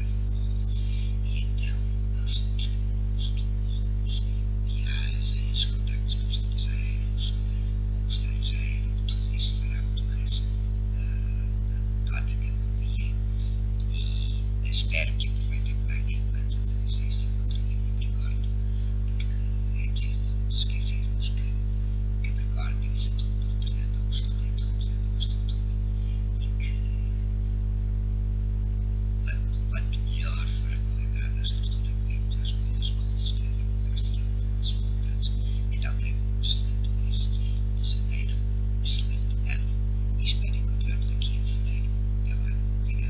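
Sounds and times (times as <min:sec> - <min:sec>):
faint high-pitched sounds: 0:00.0 - 0:27.7, 0:28.7 - 0:43.0
steady electrical hum: 0:00.0 - 0:43.0.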